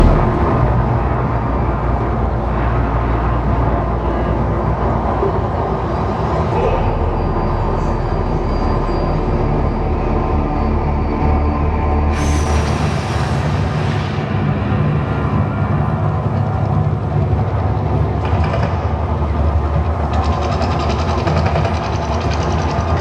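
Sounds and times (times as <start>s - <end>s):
deep rumble from loudspeakers: 0.0s - 23.0s.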